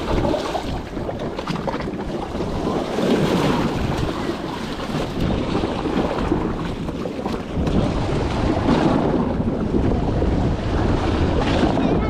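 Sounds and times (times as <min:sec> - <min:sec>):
water splashing against wooden pilings: 0:00.0 - 0:12.0
wind buffeting microphone: 0:00.0 - 0:12.0.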